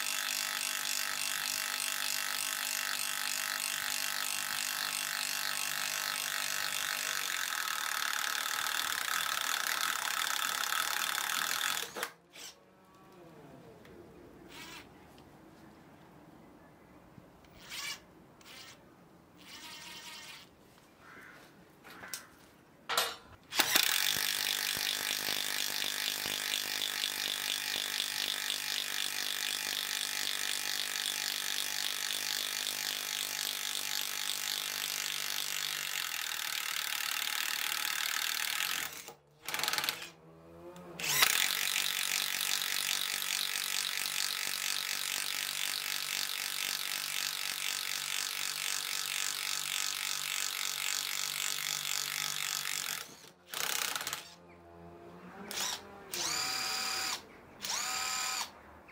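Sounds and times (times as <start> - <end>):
impact driver boring into wood: 0.0 - 12.6, 14.5 - 14.9, 17.5 - 18.8, 19.4 - 20.5, 23.5 - 54.4, 55.3 - 58.5.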